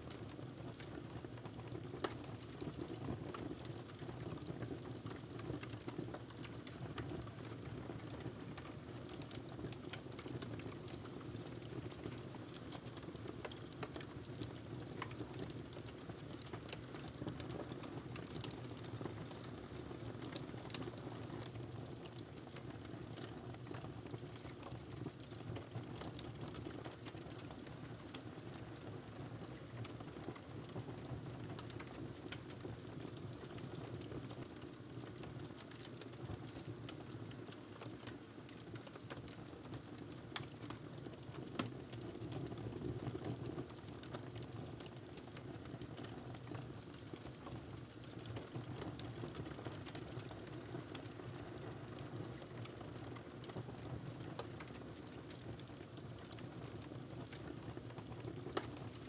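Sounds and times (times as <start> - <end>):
fire crackling and popping: 0.1 - 59.0.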